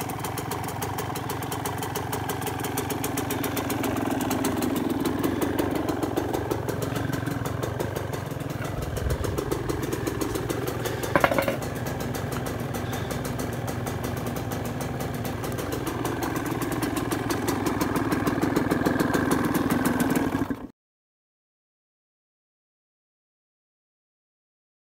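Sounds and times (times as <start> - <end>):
two-stroke engine idling: 0.0 - 20.7.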